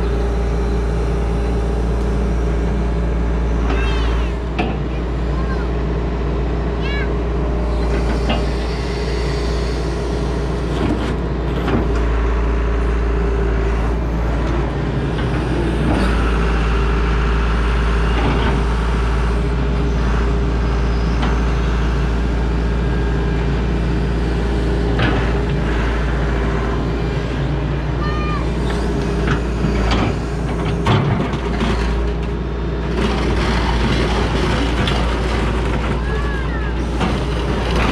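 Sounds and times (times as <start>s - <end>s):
excavator diesel engine idling: 0.0s - 37.9s.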